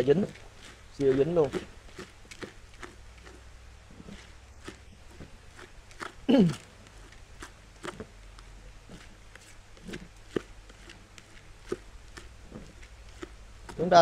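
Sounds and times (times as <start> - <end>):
pellets stirred in plastic bucket: 0.0 - 14.0.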